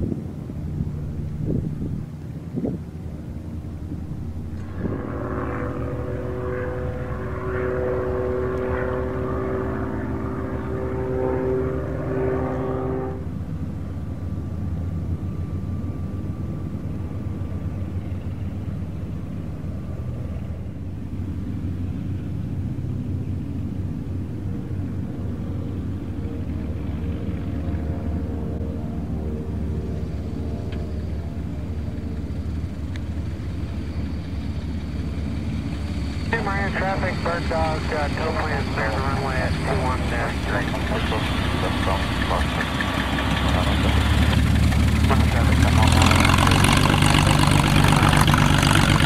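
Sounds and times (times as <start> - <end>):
propeller plane engine droning: 0.0 - 49.0.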